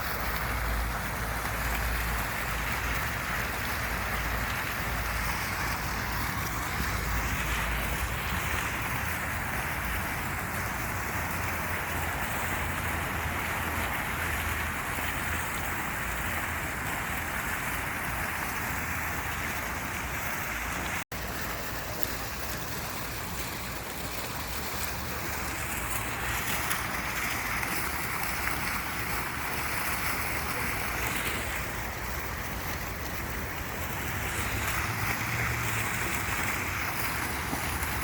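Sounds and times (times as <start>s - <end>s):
steady rushing white noise: 0.0s - 38.0s.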